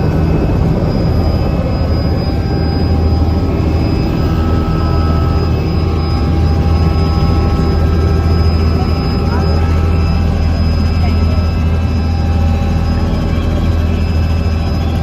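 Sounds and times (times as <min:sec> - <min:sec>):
helicopter rotor drone: 0:00.0 - 0:15.0
turbine whine: 0:00.0 - 0:15.0.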